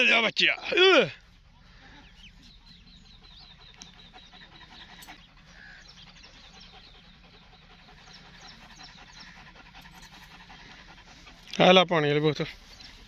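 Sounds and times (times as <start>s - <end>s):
small birds chirping: 0.0s - 13.0s
dog panting: 1.2s - 13.0s.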